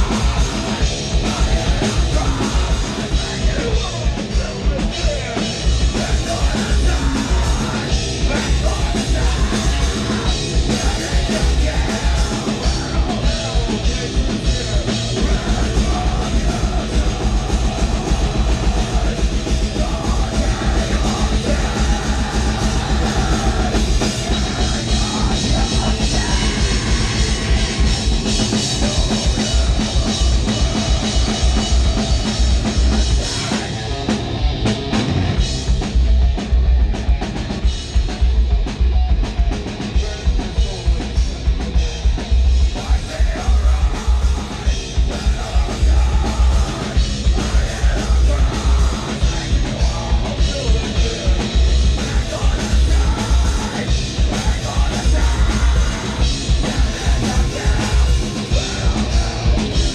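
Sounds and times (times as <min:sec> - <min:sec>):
bass guitar: 0:00.0 - 0:59.9
distorted electric guitar: 0:00.0 - 0:59.9
drum kit with fast kick drum: 0:00.0 - 0:59.9
yelled vocals: 0:00.0 - 0:59.9.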